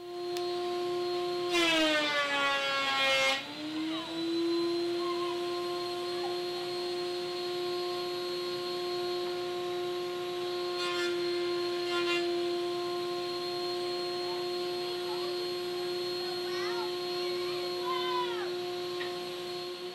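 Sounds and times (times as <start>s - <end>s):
machine motor humming: 0.0s - 19.9s.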